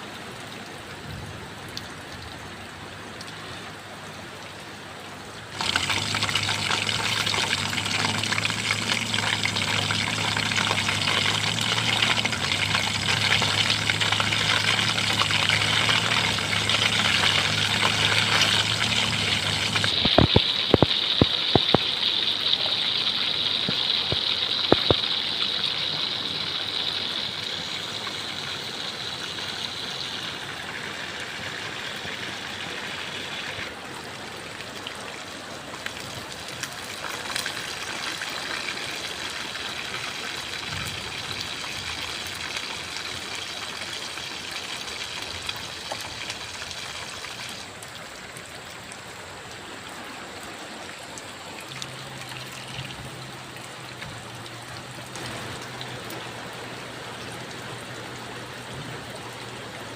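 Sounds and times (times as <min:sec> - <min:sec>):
running and trickling water: 0:00.0 - 0:59.9.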